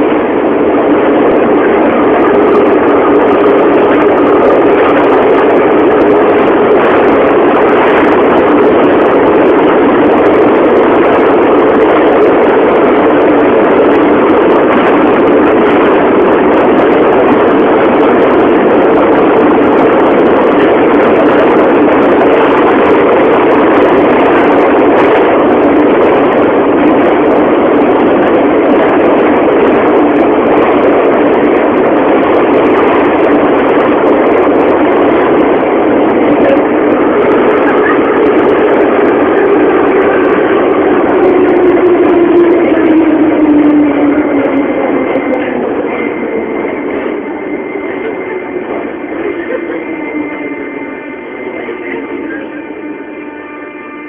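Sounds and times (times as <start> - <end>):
subway train running: 0.0 - 54.0.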